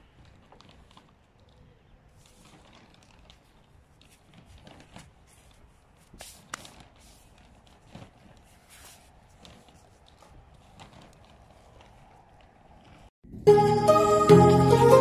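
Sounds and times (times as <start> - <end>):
gloved hands rustling soil: 0.0 - 13.2.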